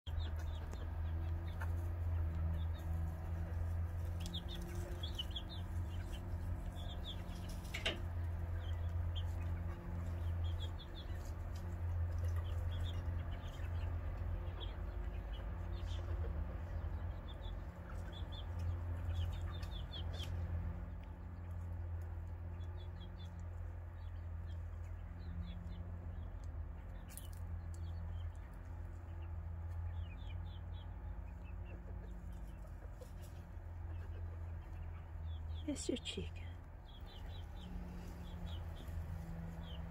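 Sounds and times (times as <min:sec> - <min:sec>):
hens clucking softly: 0:00.1 - 0:35.5.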